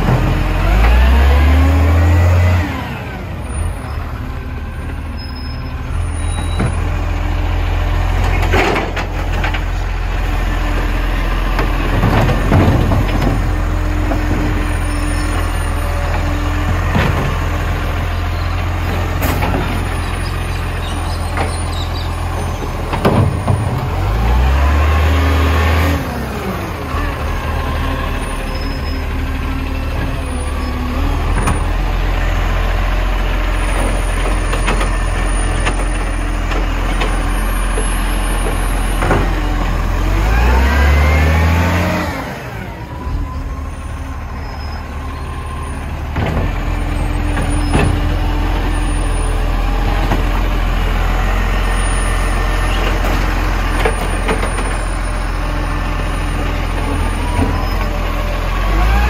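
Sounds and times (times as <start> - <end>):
garbage truck engine revving: 0.0 - 59.0.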